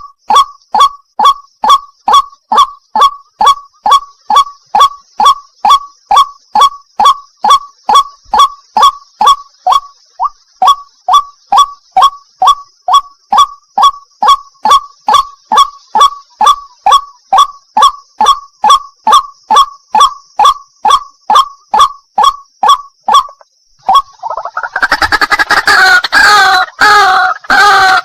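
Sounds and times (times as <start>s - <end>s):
waterhen calling: 0.0s - 18.8s, 19.5s - 28.0s
dense bird call: 0.0s - 28.0s.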